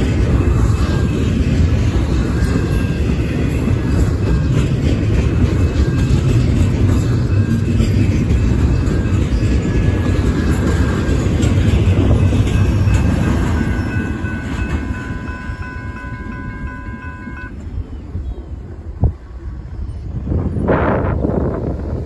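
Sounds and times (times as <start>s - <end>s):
crossing warning bell ringing: 0.0s - 18.6s
train wheels rumbling on rails: 0.0s - 22.0s.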